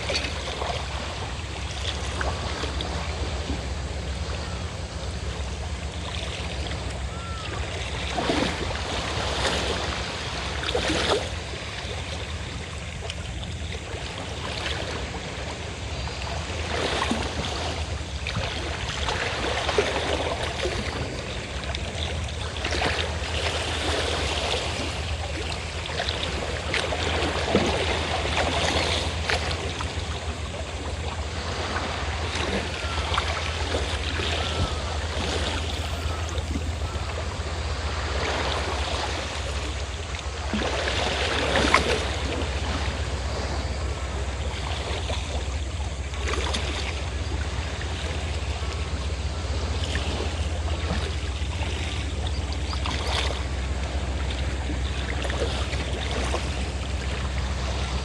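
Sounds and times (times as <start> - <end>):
boat engine droning: 0.0 - 58.0
sea waves washing: 0.0 - 58.0.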